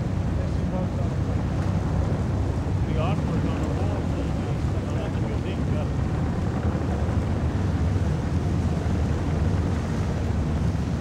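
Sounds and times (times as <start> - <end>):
motorboat engine rumbling: 0.0 - 11.0
wind buffeting microphone: 0.0 - 11.0.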